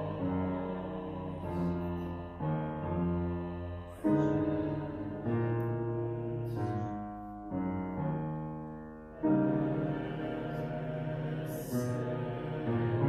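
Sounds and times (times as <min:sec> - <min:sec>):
piano playing slow chords: 0:00.0 - 0:13.0.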